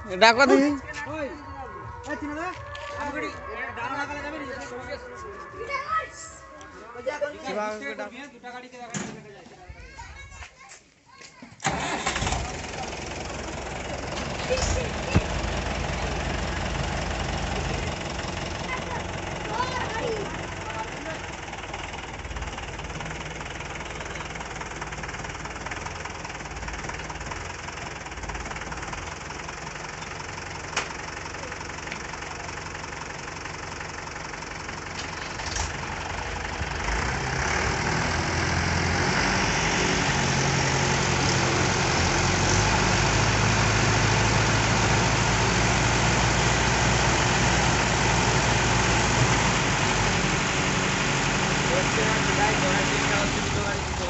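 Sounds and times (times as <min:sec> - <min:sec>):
tractor diesel engines idling: 0:00.0 - 0:09.6, 0:11.6 - 0:54.0.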